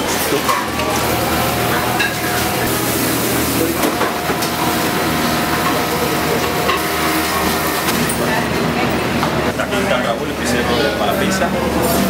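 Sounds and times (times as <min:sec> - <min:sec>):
kitchen equipment drone and hiss: 0:00.0 - 0:12.0.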